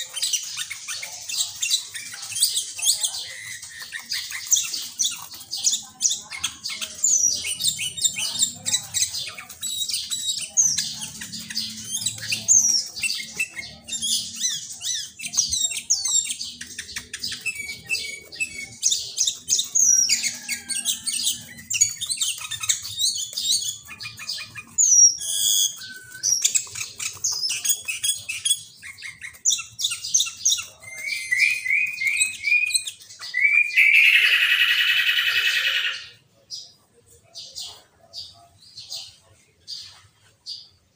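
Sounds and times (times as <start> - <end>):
bird singing chirps and whistles: 0.0 - 36.1.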